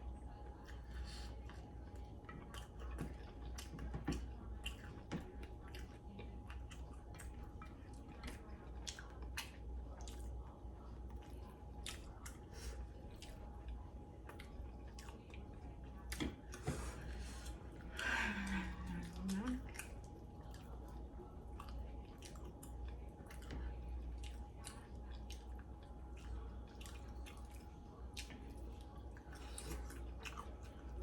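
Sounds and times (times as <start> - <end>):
wet chewing and lip-smacking: 0.2 - 31.0.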